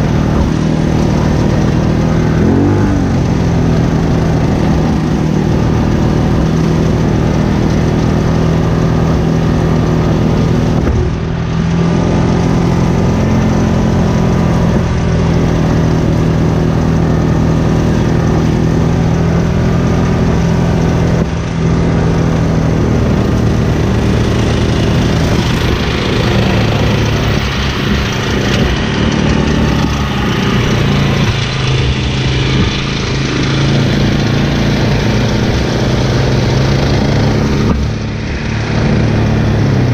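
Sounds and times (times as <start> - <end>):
brush mower engine: 0.0 - 39.9.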